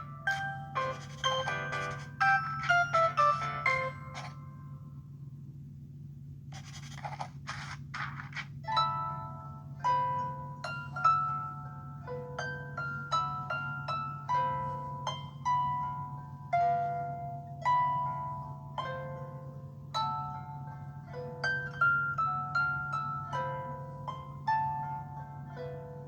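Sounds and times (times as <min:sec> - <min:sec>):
plucked harp-like ringtone melody: 0:00.0 - 0:04.7, 0:08.7 - 0:26.0.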